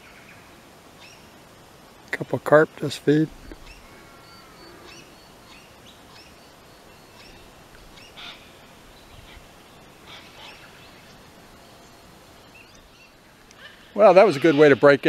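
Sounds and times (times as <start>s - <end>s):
outdoor background noise: 0.0s - 15.0s
birds chirping and calling: 1.0s - 1.4s, 2.2s - 15.0s.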